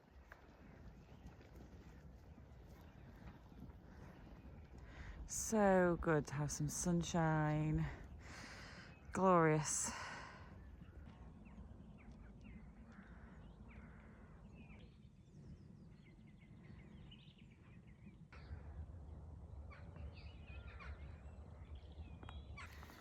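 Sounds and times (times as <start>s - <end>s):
low rumble of wind: 0.0s - 23.0s.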